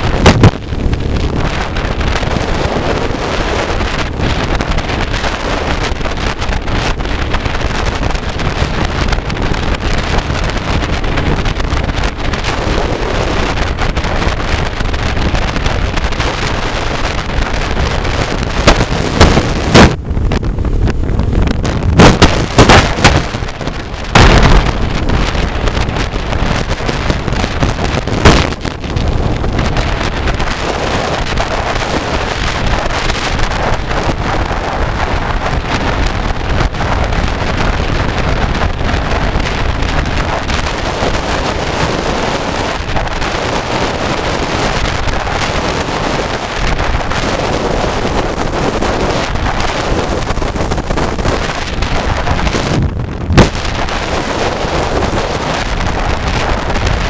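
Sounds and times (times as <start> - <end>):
vehicle road and engine noise: 0.0 - 57.0
wind buffeting microphone: 0.0 - 57.0.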